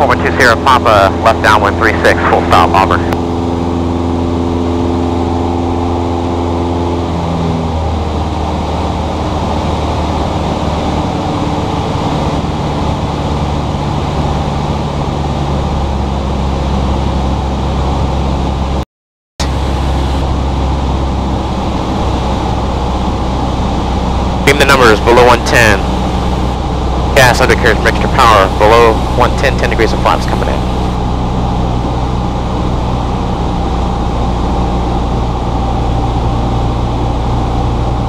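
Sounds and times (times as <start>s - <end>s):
light aircraft engine droning: 0.0s - 18.8s, 19.4s - 38.0s.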